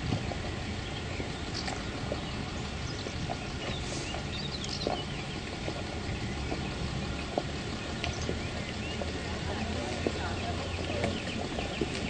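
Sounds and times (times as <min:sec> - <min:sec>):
birds chirping faintly: 0:00.0 - 0:12.0
footsteps on paved road: 0:00.0 - 0:12.0
low outdoor rumble: 0:00.0 - 0:12.0.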